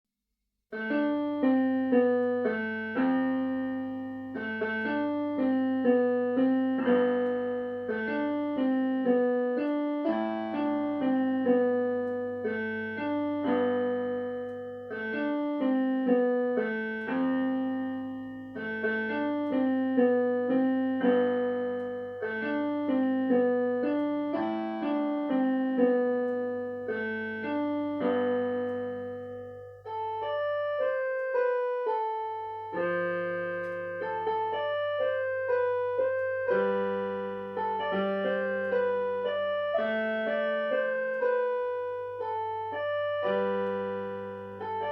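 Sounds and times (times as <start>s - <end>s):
slow piano music: 0.7s - 44.9s.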